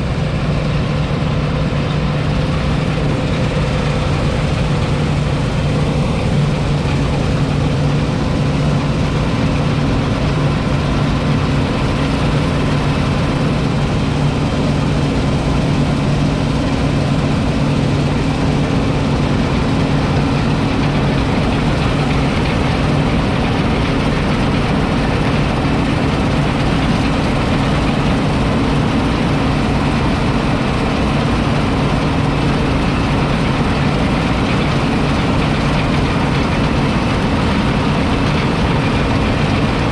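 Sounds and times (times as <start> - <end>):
combine harvester diesel engine running: 0.0 - 39.9.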